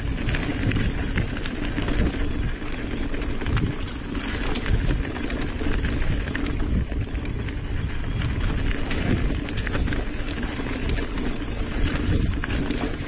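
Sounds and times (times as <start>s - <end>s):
bike rattling over bumps: 0.0s - 13.0s
bike tyres rumbling on dirt: 0.0s - 13.0s
wind on camera: 0.0s - 13.0s.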